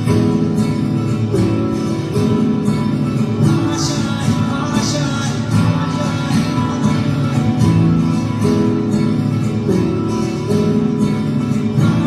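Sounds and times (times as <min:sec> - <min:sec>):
instrumental music with guitar: 0:00.0 - 0:12.0.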